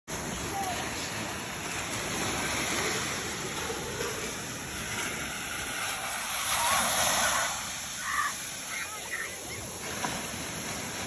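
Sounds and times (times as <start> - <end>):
small waves breaking on beach: 0.1 - 11.0.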